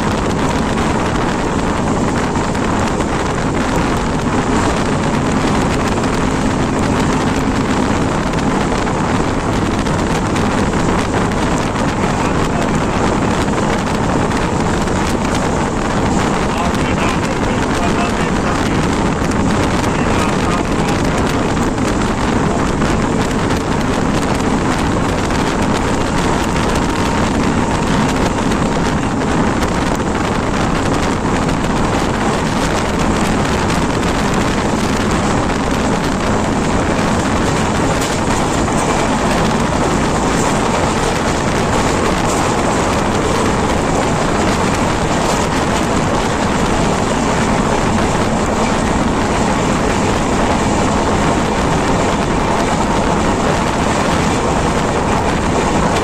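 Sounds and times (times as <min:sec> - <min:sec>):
train wheels running on rails: 0:00.0 - 0:56.0
wind buffeting microphone: 0:00.0 - 0:56.0.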